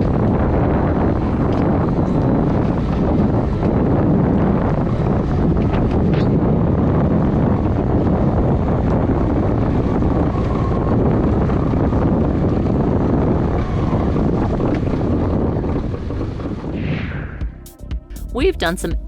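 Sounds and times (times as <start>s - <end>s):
wind buffeting microphone: 0.0s - 17.4s.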